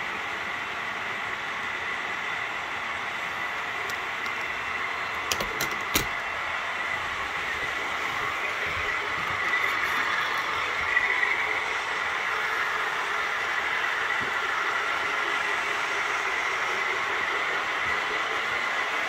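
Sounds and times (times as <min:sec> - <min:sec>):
faint high whine: 0:00.0 - 0:19.0
model train motors whirring: 0:00.0 - 0:19.0.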